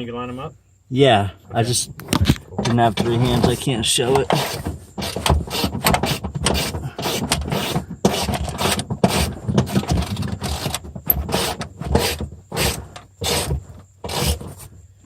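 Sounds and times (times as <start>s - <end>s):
car seat metal clunks and rattles: 1.7s - 14.9s.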